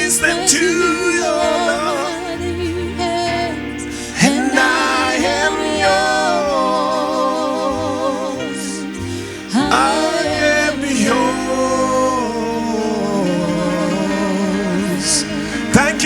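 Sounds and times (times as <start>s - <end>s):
person singing long notes: 0.0s - 16.0s
sustained keyboard chords: 0.0s - 16.0s.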